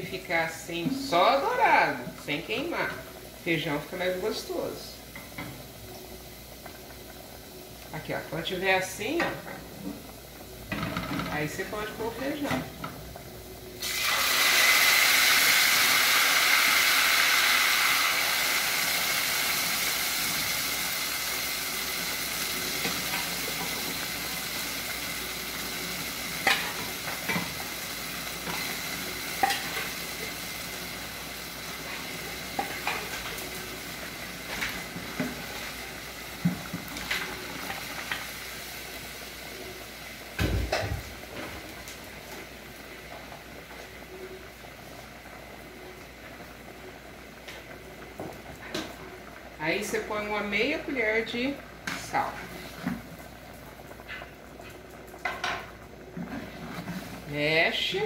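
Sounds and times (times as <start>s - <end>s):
beans sizzling in hot oil: 0.0s - 58.0s.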